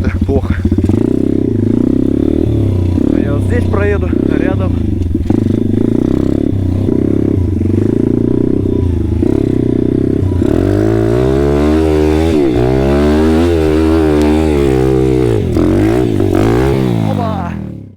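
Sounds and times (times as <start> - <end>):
moped engine revving: 0.0 - 17.9.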